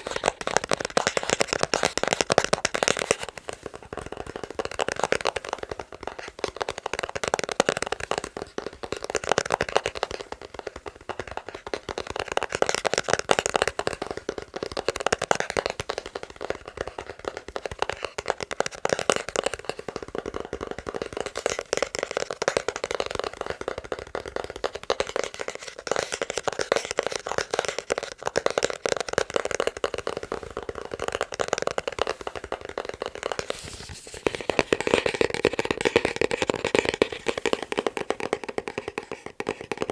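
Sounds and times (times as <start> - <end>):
fingertips tapping on a box: 0.0 - 33.5, 34.2 - 39.9.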